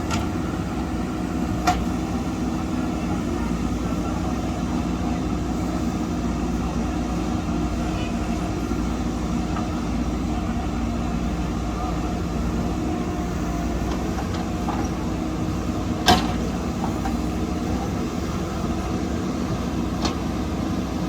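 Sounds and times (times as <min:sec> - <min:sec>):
backhoe diesel engine running: 0:00.0 - 0:21.0.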